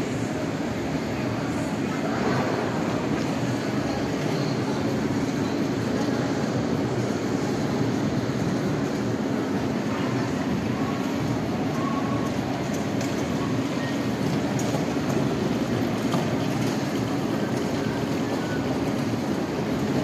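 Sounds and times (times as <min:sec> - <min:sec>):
shopping centre ambient rumble: 0:00.0 - 0:20.0.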